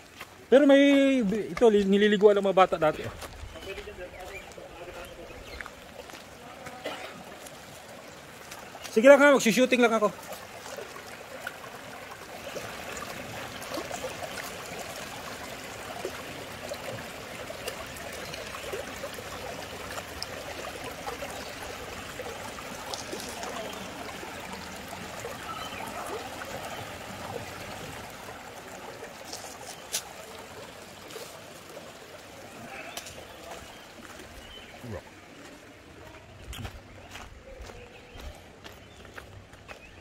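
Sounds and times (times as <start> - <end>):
stream water trickling: 0.0 - 40.0.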